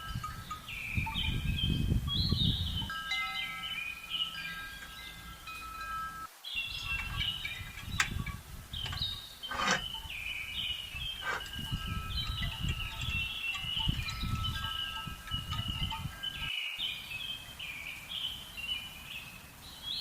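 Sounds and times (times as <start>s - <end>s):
chime-like ringing tones: 0.0s - 16.5s.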